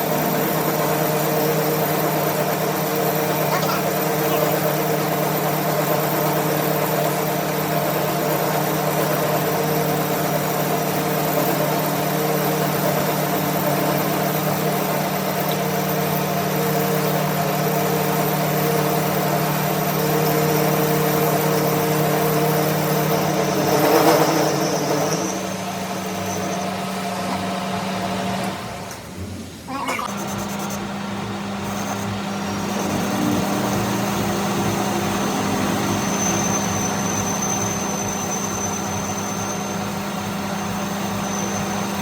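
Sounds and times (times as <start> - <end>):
machine humming: 0.0 - 42.0.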